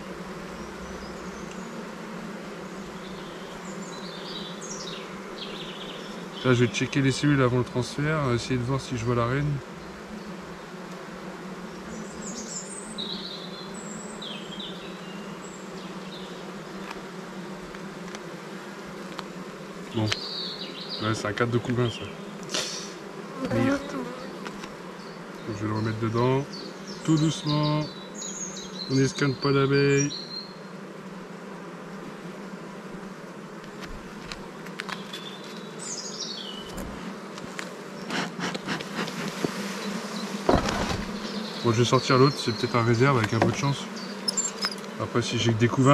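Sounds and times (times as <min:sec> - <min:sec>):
honeybees buzzing: 0:00.0 - 0:45.9.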